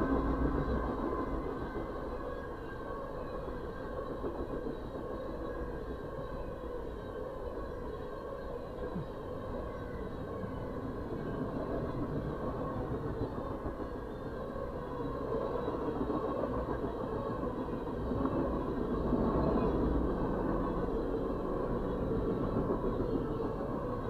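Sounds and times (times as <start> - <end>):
muffled freight train rumble: 0.0 - 24.0.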